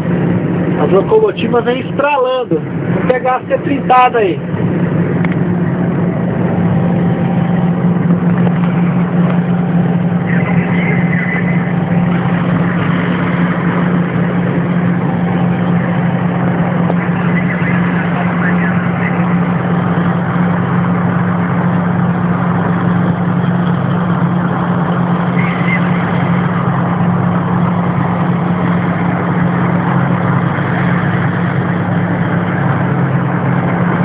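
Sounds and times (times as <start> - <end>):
diesel locomotive engine droning: 0.0 - 34.0.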